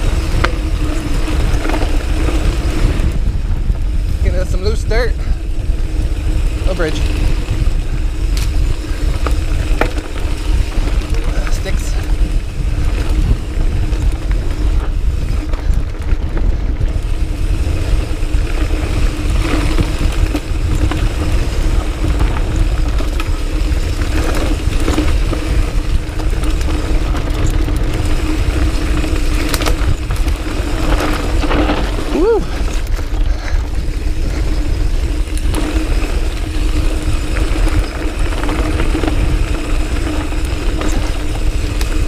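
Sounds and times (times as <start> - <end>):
bike tyres on dirt trail: 0.0 - 42.0
wind rumble on microphone: 0.0 - 42.0
bike knocking over bumps: 8.1 - 42.0.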